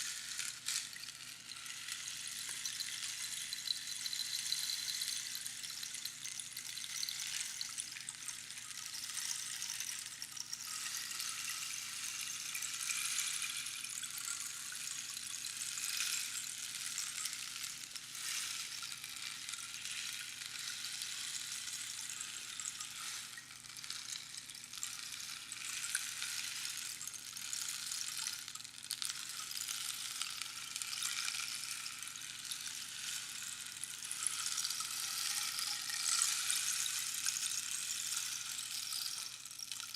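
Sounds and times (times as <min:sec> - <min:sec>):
rainstick beads trickling: 0:00.0 - 0:39.9.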